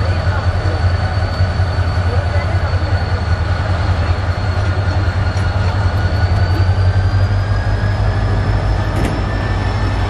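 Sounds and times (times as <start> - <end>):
faint high squeal: 0.0 - 10.0
train coaches rumbling: 0.0 - 10.0.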